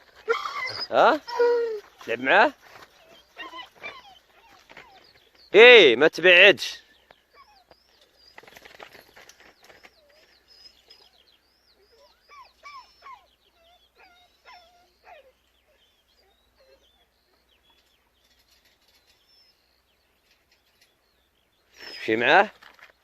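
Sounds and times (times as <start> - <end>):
bird chirping: 0.0 - 23.0
lower bird calls: 2.7 - 5.6, 6.8 - 23.0.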